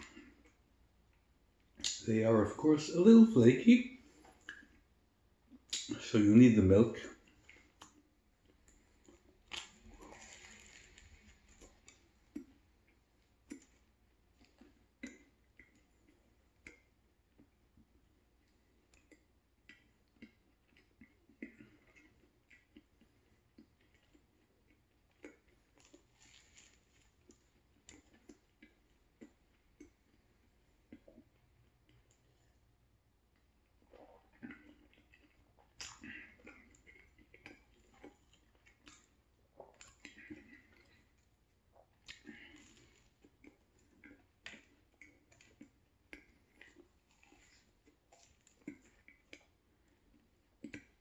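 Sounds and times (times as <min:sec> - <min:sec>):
man chewing croissant: 0:00.0 - 0:51.0.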